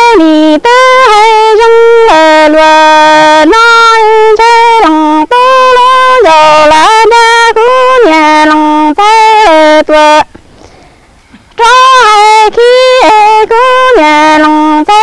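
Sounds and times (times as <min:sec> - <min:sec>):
person singing long level notes: 0:00.0 - 0:10.3, 0:11.6 - 0:15.0.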